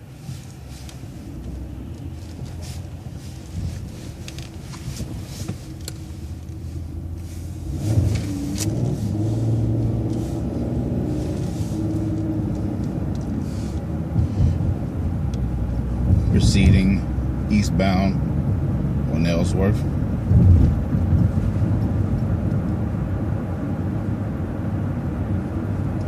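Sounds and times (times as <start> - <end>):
bus engine: 0.0 - 26.0
road rumble: 0.0 - 26.0.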